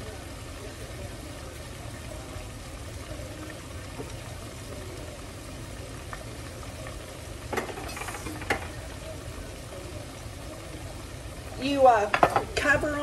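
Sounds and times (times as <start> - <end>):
meat frying in oil: 0.0 - 13.0.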